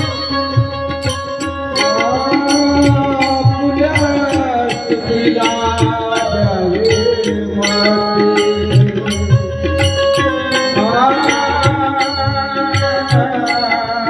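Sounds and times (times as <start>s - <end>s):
hand drum beats: 0.0s - 14.0s
person singing devotional song: 0.0s - 14.0s.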